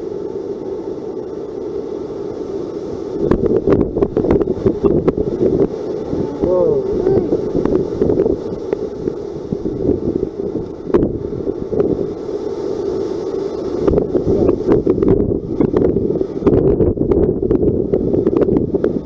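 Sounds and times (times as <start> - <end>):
wind buffeting microphone: 2.9 - 19.0.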